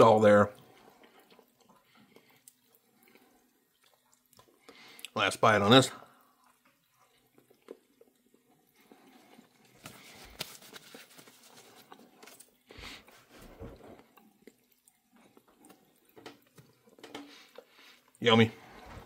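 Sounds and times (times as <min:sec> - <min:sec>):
faint chewing: 0:00.5 - 0:05.2, 0:06.0 - 0:18.9.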